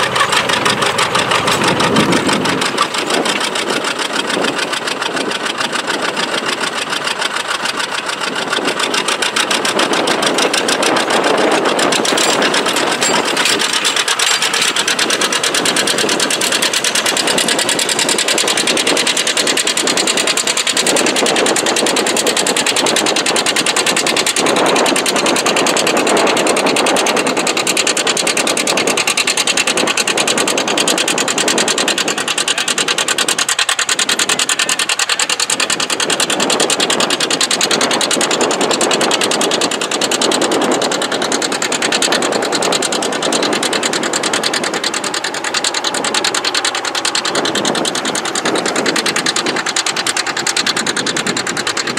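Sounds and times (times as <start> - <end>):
tractor engine running under load: 0.0 - 51.9.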